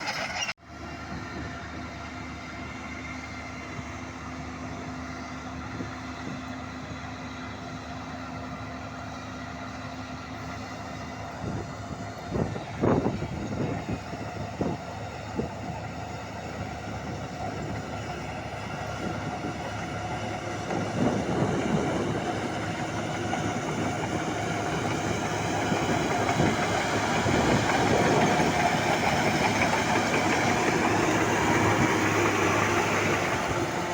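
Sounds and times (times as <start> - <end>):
bulldozer diesel engine drone: 0.0 - 33.9.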